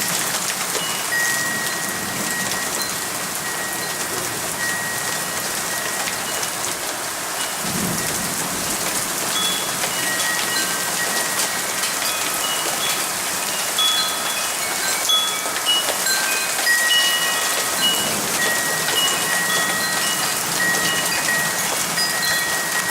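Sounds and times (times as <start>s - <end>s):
steady rain falling: 0.0s - 22.9s
wind chimes ringing: 0.0s - 22.9s.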